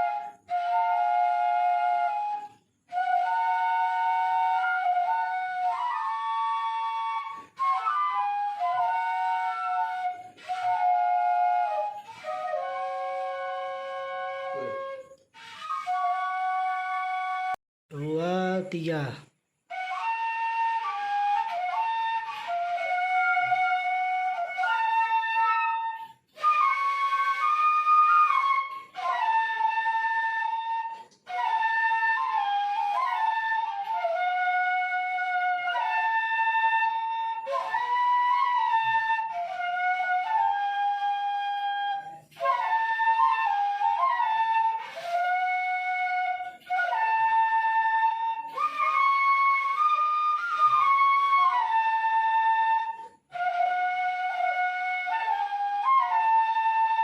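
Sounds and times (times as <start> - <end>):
bamboo flutes playing a melody: 0.0 - 19.1, 19.7 - 57.0.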